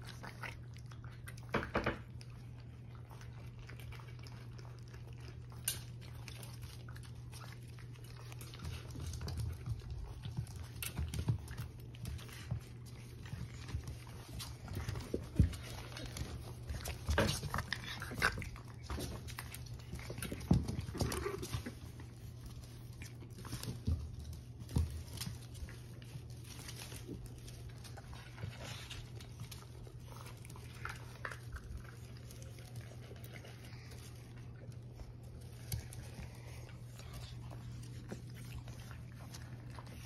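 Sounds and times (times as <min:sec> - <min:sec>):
puppies eating from metal bowls: 0:00.0 - 0:40.0
puppies scuffling on wooden floor: 0:00.0 - 0:40.0
steady low hum: 0:00.0 - 0:40.0.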